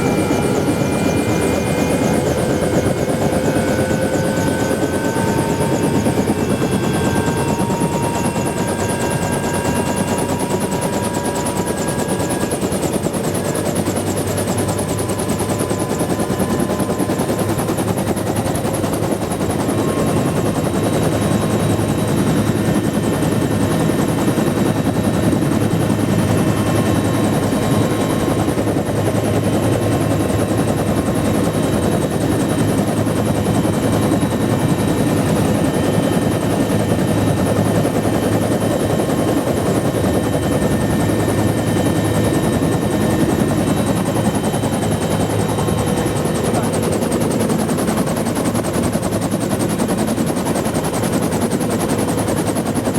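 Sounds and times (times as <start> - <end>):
turbine whine: 0.0 - 52.8
helicopter rotor noise: 0.0 - 52.9.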